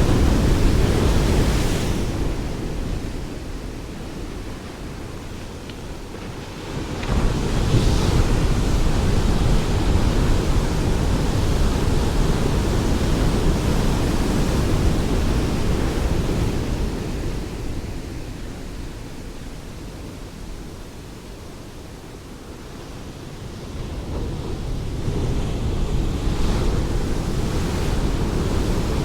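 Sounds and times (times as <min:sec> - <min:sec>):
ocean waves rushing: 0:00.0 - 0:19.4, 0:22.4 - 0:29.0.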